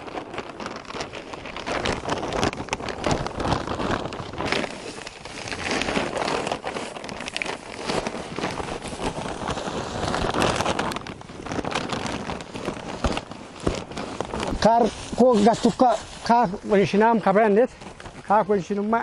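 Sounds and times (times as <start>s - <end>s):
dry straw rustling: 0.0s - 19.0s
plastic sack crinkling: 0.0s - 19.0s.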